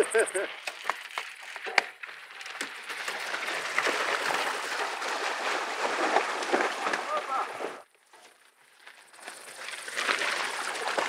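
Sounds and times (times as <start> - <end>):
bike wheels splashing through stream: 0.0 - 7.9, 8.6 - 11.0.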